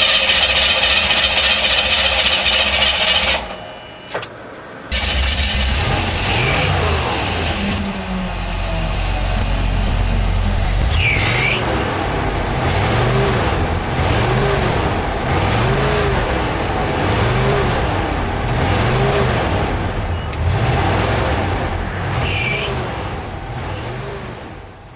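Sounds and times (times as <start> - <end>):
engine revving: 0.0 - 3.6, 4.9 - 24.9
drive belt squealing: 4.9 - 24.9.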